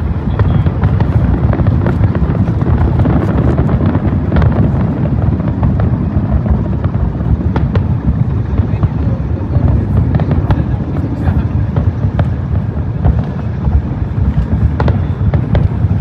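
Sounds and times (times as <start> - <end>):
firework booms rumbling: 0.0 - 16.0
firework sharp cracks: 0.0 - 16.0.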